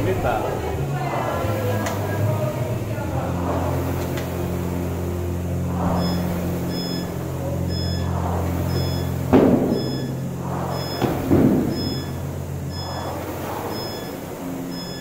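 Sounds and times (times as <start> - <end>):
low hum: 0.0 - 15.0
rowing machine flywheel whirring: 0.0 - 15.0.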